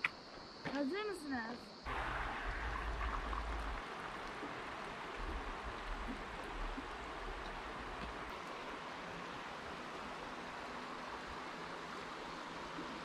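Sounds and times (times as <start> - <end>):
flowing river water: 1.9 - 13.0.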